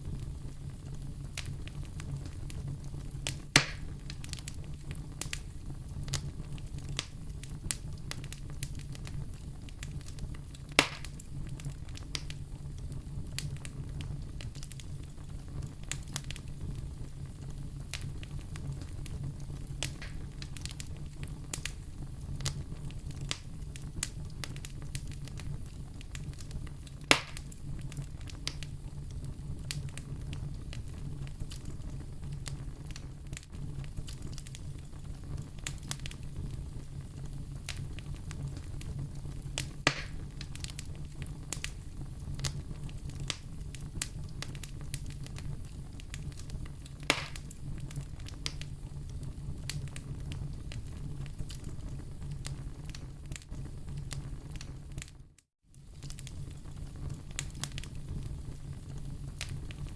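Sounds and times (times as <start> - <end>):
sharp fire pops: 0.0 - 55.1, 55.8 - 59.9
fireplace fire crackling: 0.0 - 59.9
low fire rumble: 0.0 - 59.9.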